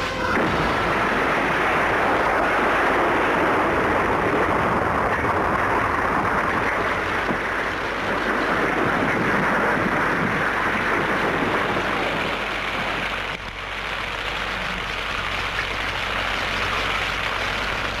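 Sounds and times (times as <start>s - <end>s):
large fire crackling: 0.0s - 18.0s.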